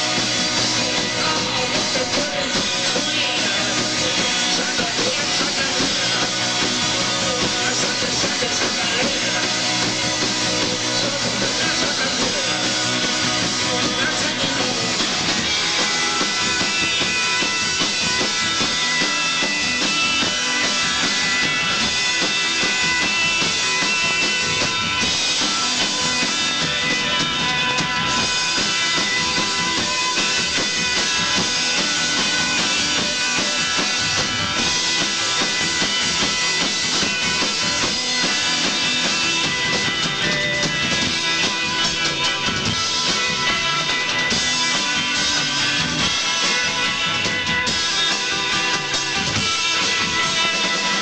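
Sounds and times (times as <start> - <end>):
electric guitar: 0.0 - 51.0
live rock band playing loud: 0.0 - 51.0.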